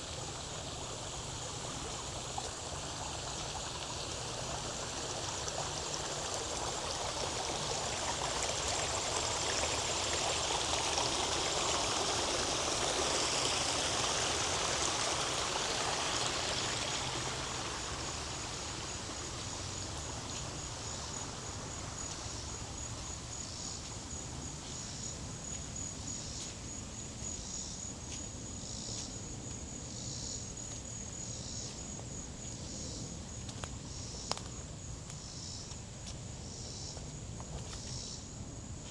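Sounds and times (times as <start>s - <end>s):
insect trill: 0.0s - 38.9s
stream water running: 0.0s - 38.9s.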